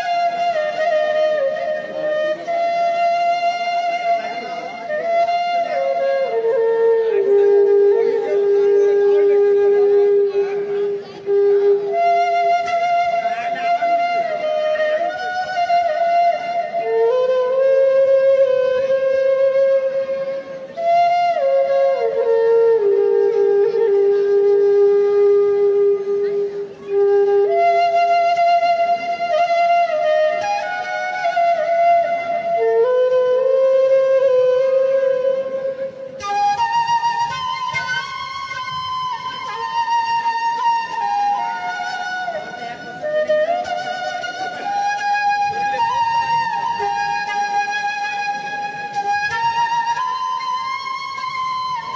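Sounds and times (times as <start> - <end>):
flute melody with sliding notes: 0.0 - 51.9.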